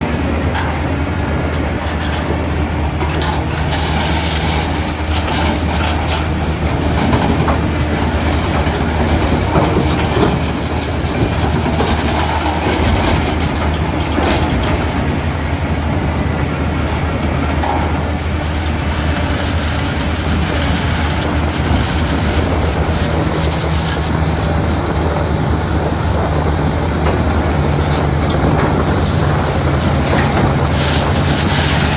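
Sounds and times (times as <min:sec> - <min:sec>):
diesel engine running: 0:00.0 - 0:31.9
metallic clanks and rattles: 0:01.4 - 0:15.2, 0:17.2 - 0:31.9.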